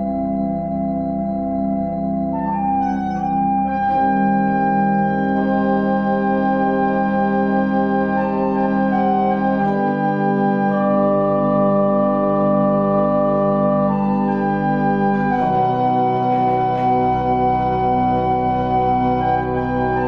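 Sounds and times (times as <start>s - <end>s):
pipe organ chords: 0.0s - 20.0s.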